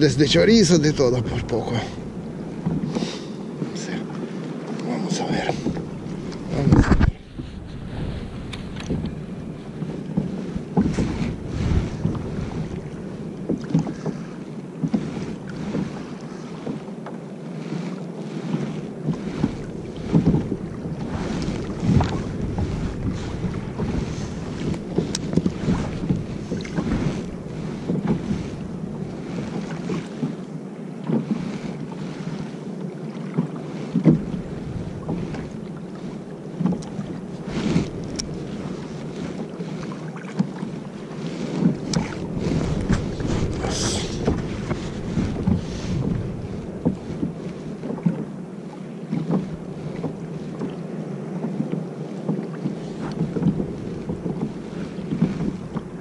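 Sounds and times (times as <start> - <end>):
water splashing against kayak hull: 0.0 - 56.0
wind rumbling on microphone: 0.0 - 56.0.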